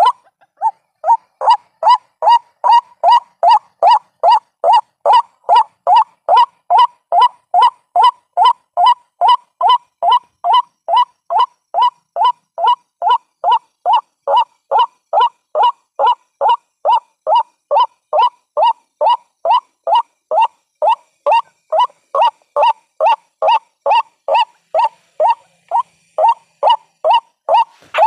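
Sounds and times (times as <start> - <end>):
waterhen call: 0.0 - 28.0.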